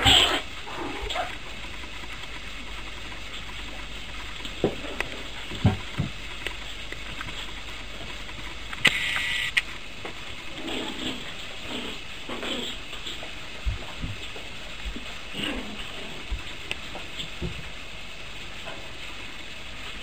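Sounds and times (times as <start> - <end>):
puppies scuffling: 0.0 - 8.8, 9.6 - 17.8
steady hiss: 0.0 - 20.0.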